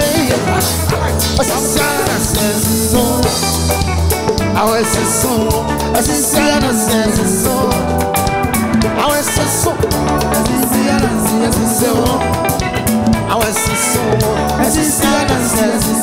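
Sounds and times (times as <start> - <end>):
live band music: 0.0 - 16.0
steady drum beat: 0.0 - 16.0.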